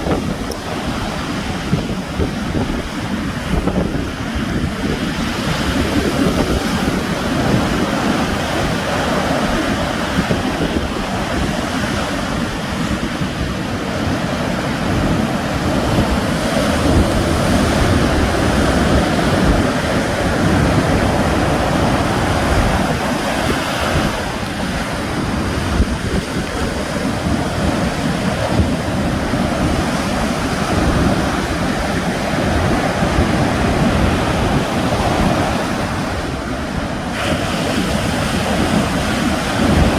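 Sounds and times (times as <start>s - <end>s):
sea waves breaking on shore: 0.0s - 39.9s
wind buffeting microphone: 0.0s - 39.9s.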